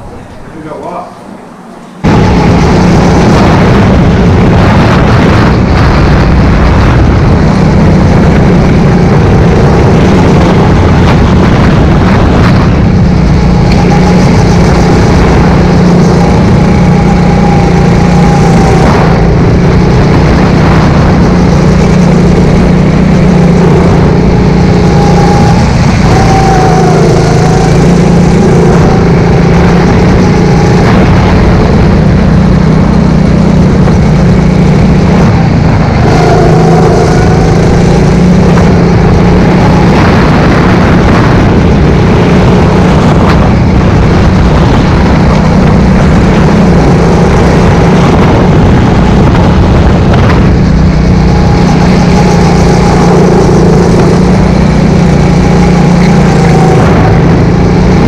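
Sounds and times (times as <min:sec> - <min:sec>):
go-kart engine running: 0:00.0 - 0:58.0
noisy rush: 0:00.0 - 0:58.0.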